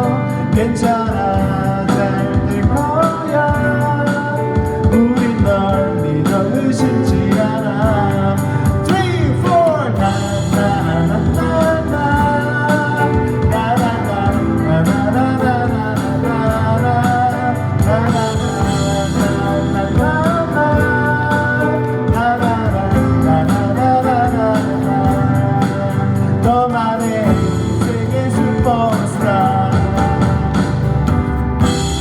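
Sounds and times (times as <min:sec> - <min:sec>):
live pop-rock band: 0:00.0 - 0:32.0.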